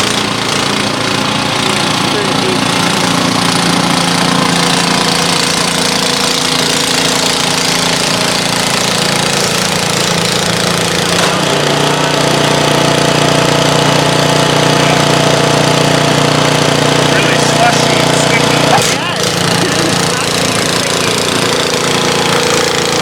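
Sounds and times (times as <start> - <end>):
snowblower engine running: 0.0 - 23.0.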